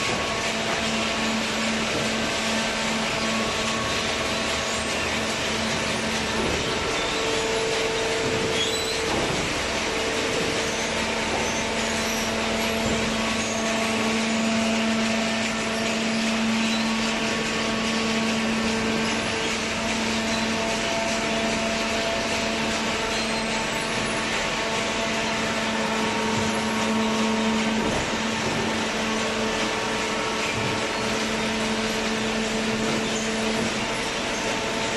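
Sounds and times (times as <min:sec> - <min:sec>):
continuous rushing noise: 0:00.0 - 0:34.9
machine hum and drone: 0:00.0 - 0:34.9.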